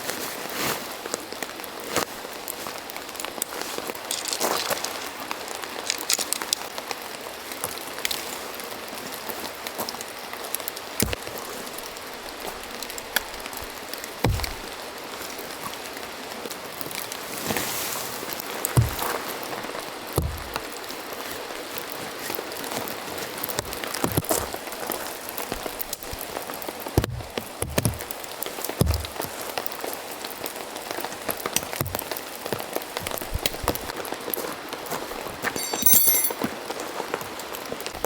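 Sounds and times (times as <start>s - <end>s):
rain falling: 1.0s - 35.3s.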